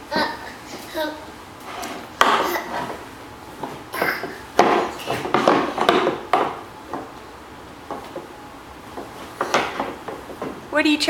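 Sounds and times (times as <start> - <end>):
hard objects knocking and clattering: 1.8 - 10.7.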